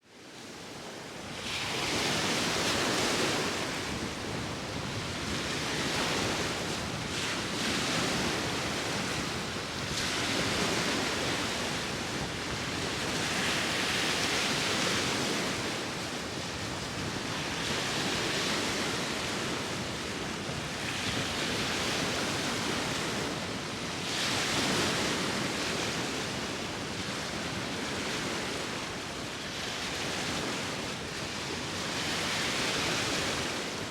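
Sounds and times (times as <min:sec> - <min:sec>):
sea waves breaking: 0:01.2 - 0:33.9.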